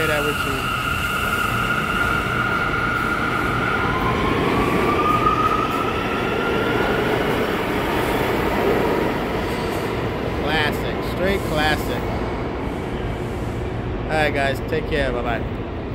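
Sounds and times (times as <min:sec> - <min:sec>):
high train whine: 0:00.0 - 0:15.9
subway train rumbling: 0:00.0 - 0:15.9.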